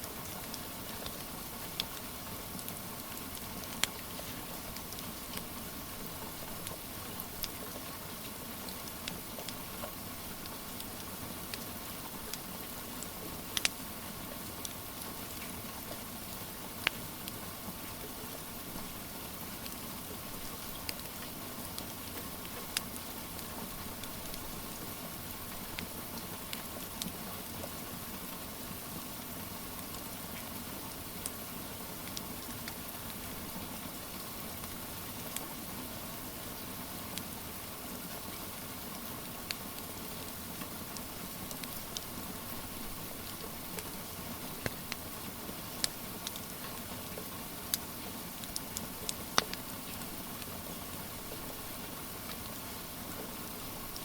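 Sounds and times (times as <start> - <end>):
wood fire crackling: 0.0 - 27.8, 37.1 - 54.0
steady rain hiss: 0.0 - 54.0.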